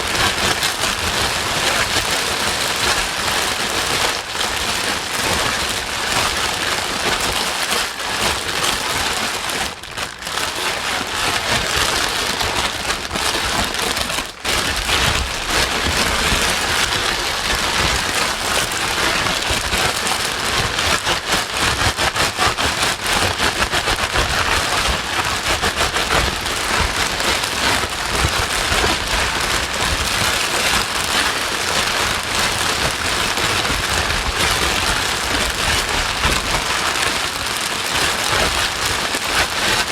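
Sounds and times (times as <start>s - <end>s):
heavy rain patter: 0.0s - 39.9s.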